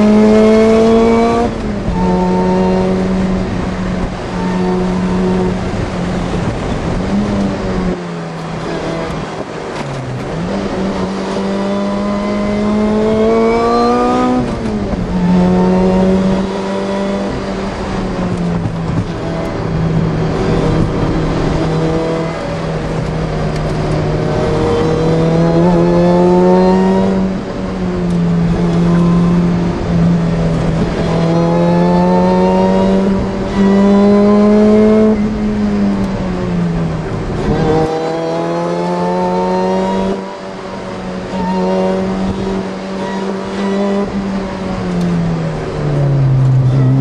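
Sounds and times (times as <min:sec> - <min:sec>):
car engine accelerating: 0:00.0 - 0:47.0
supercharger whine: 0:00.0 - 0:47.0.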